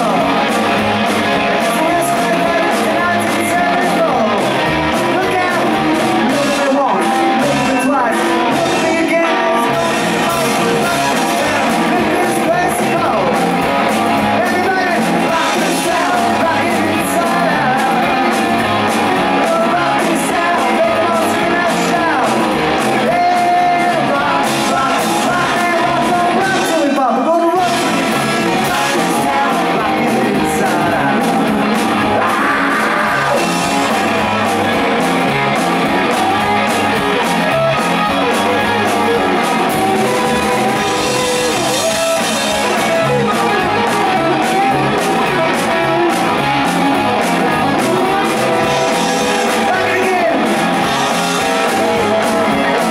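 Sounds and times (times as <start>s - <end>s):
bass guitar: 0.0s - 52.9s
drum kit: 0.0s - 52.9s
electric guitars: 0.0s - 52.9s
person singing: 0.0s - 52.9s.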